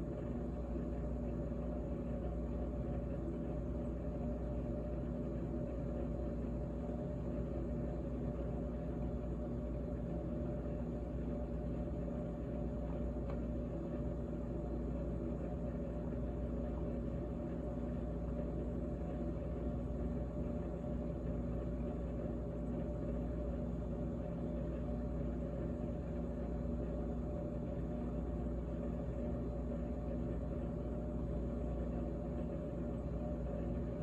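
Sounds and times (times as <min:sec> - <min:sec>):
refrigerator humming: 0:00.0 - 0:34.0.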